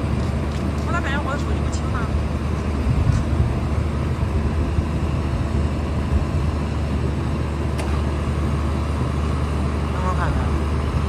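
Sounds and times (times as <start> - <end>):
crane running with low drone: 0.0 - 11.0.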